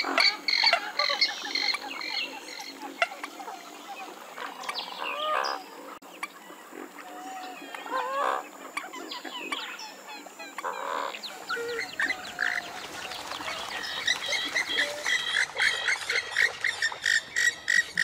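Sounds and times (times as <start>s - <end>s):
swamphen calling: 0.0s - 18.0s.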